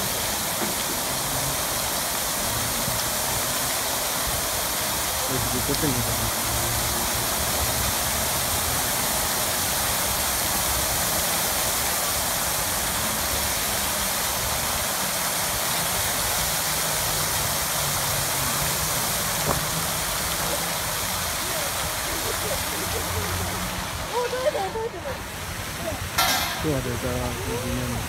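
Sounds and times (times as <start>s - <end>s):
fountain jets splashing: 0.0s - 28.0s.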